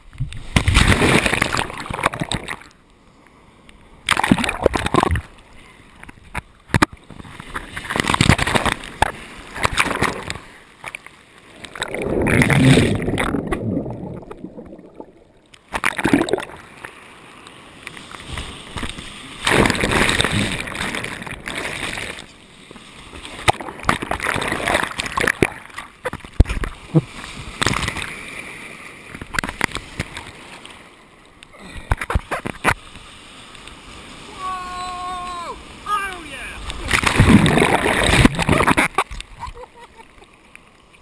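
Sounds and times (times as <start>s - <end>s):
surf splashing and churning: 0.0s - 41.0s.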